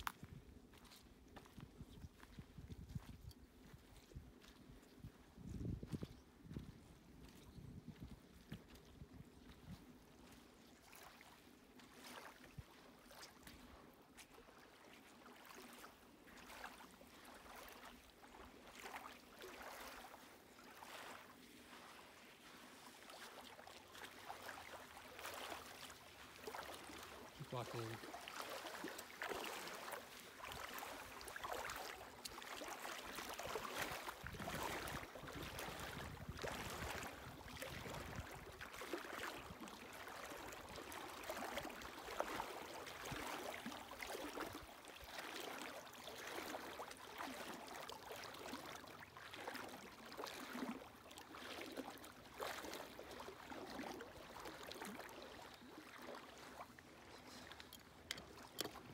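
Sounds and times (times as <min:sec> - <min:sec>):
small waves lapping: 0:00.0 - 0:05.4, 0:06.0 - 0:58.9.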